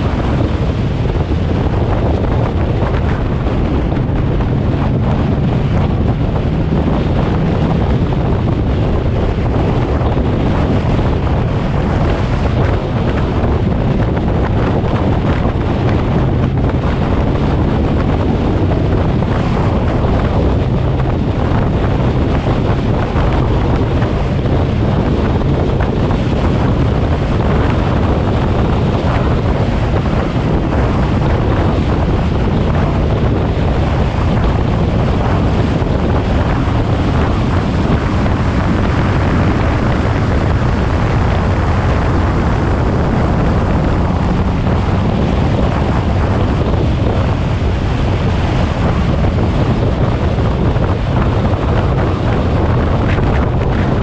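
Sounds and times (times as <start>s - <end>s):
in-car engine drone: 0.0s - 54.0s
road noise: 0.0s - 54.0s
wind buffeting microphone: 0.0s - 54.0s.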